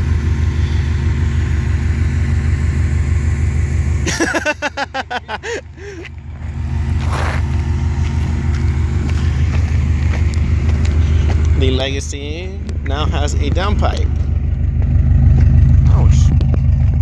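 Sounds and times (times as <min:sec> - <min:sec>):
engine fluttering stutter: 0:00.0 - 0:04.7, 0:05.6 - 0:17.0
car exhaust rumble: 0:00.0 - 0:17.0.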